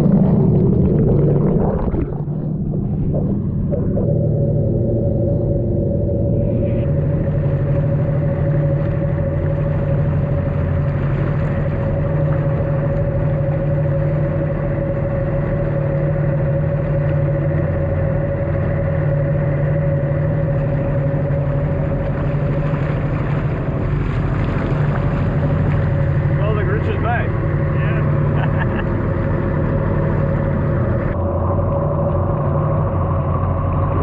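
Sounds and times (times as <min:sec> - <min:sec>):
jet ski engine idling: 0:00.0 - 0:01.6, 0:02.3 - 0:34.0.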